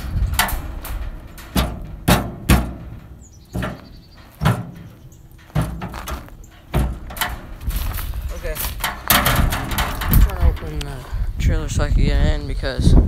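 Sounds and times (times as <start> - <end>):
knocks and bangs on trailer door: 0.0 - 10.7.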